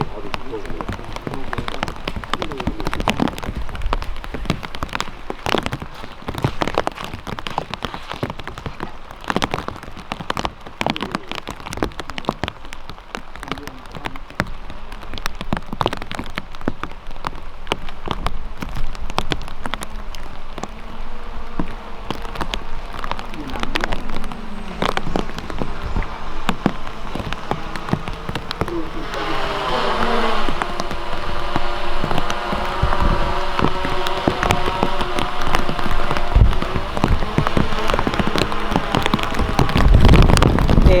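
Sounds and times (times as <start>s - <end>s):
rain falling: 0.0s - 41.0s
raindrops pattering close by: 0.0s - 41.0s.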